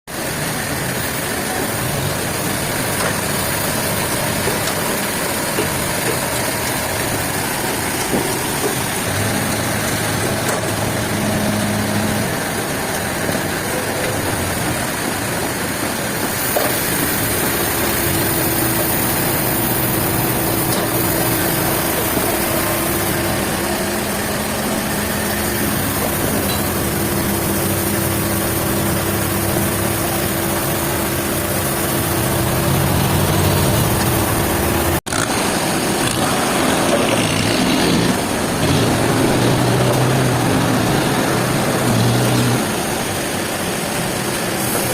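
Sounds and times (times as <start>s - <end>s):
heavy engine running: 0.1s - 44.9s.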